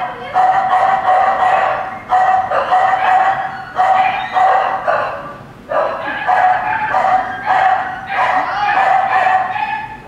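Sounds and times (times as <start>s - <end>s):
small dog barking: 0.0s - 10.0s.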